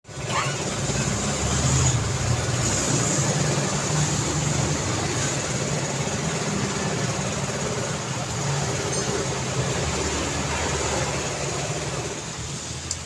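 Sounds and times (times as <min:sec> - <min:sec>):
tyre and road noise: 0:00.0 - 0:13.0
passing vehicle engines humming: 0:00.1 - 0:13.0.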